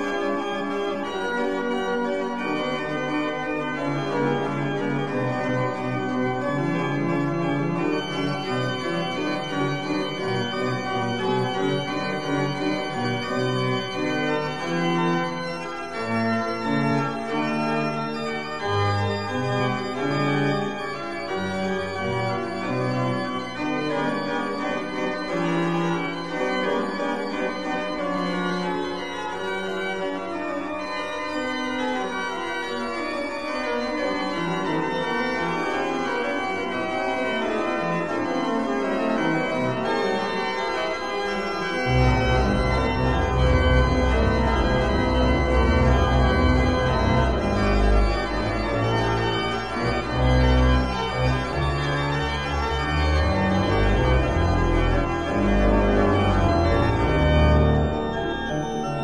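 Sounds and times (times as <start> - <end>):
organ music: 0.0 - 59.0.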